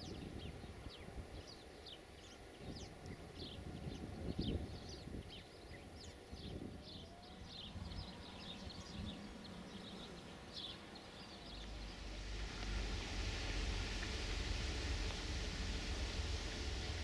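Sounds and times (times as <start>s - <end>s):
small birds chirping: 0.0s - 14.1s
low rumble and hiss: 0.0s - 17.0s.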